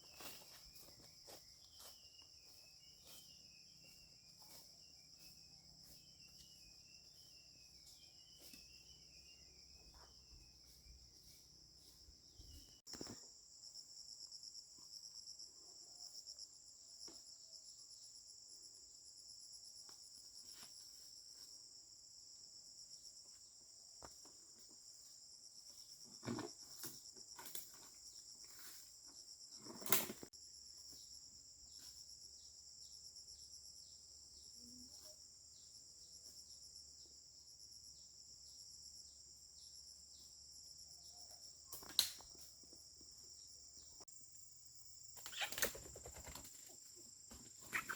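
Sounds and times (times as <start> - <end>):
insects chirring: 0.0 - 47.9.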